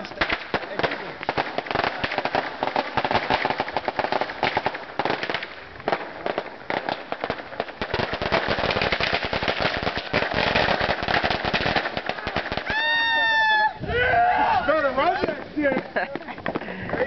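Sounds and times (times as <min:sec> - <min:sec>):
firecrackers popping: 0:00.0 - 0:13.7, 0:15.0 - 0:17.0.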